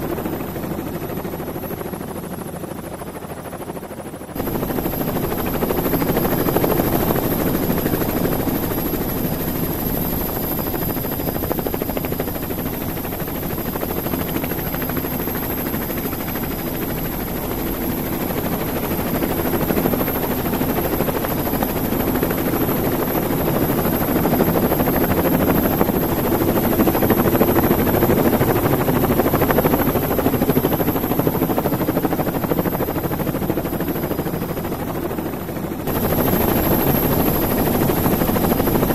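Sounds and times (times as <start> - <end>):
model helicopter rotor and motor: 0.0 - 38.9.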